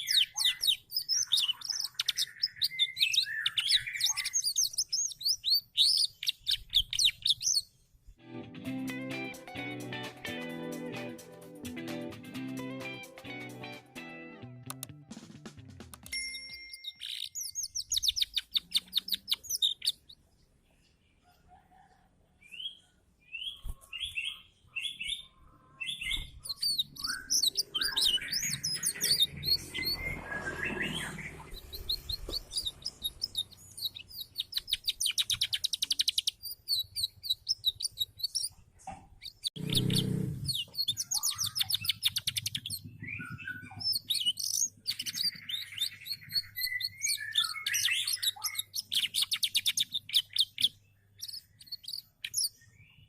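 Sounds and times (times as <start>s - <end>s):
canary singing trills: 0.0s - 7.8s, 16.2s - 20.3s, 22.4s - 53.0s.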